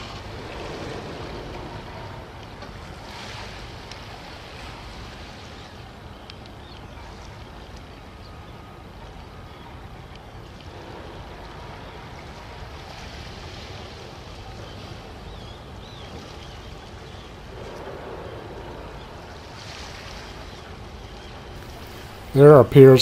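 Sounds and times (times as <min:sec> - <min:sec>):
water noise: 0:00.0 - 0:23.0
wind: 0:00.0 - 0:23.0.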